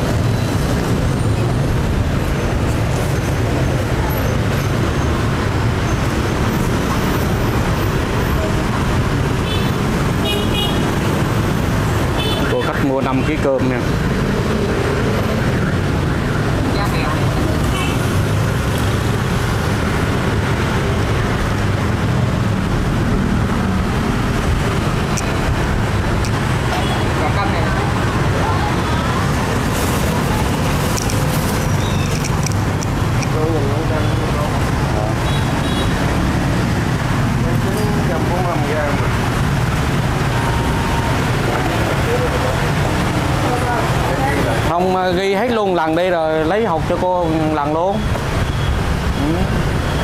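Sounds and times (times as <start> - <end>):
street traffic rumble: 0.0 - 50.0.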